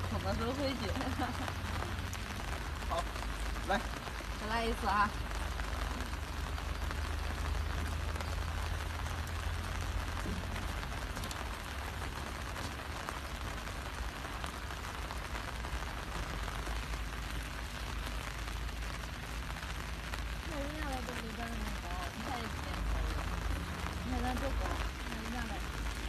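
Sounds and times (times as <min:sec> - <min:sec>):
rain pattering on umbrellas: 0:00.0 - 0:26.0
steady low rumble: 0:00.0 - 0:26.0.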